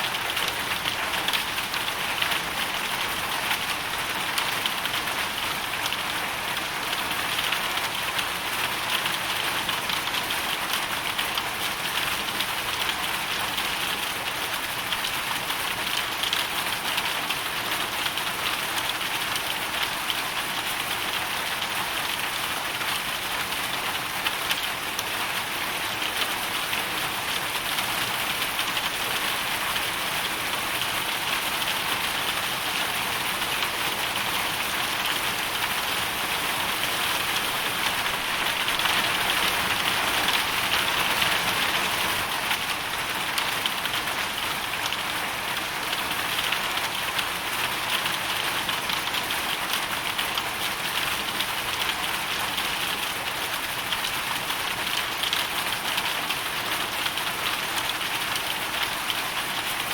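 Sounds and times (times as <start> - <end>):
hail and rain pattering: 0.0 - 59.9.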